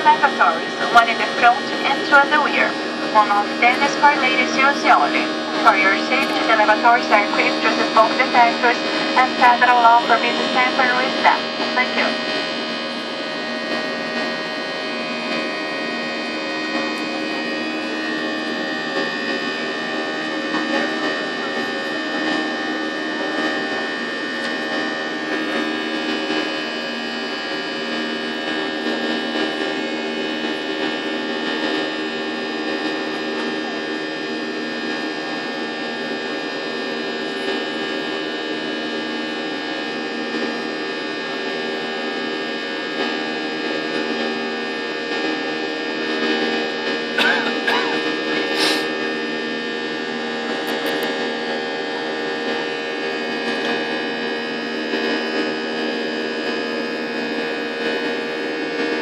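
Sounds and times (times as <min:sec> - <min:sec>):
jet cabin engine drone: 0:00.0 - 0:59.0.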